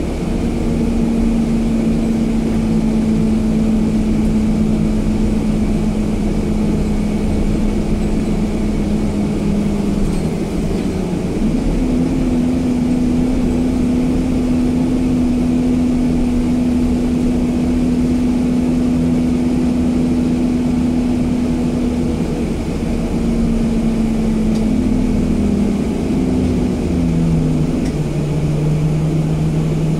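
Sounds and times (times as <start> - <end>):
bus engine droning: 0.0 - 29.9.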